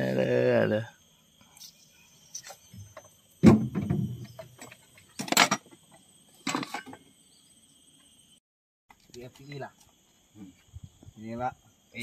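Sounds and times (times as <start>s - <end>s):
high insect buzz: 0.0s - 12.0s.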